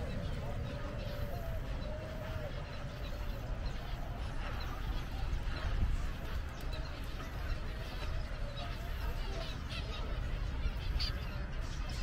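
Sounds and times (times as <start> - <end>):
distant voices: 0.0 - 12.0.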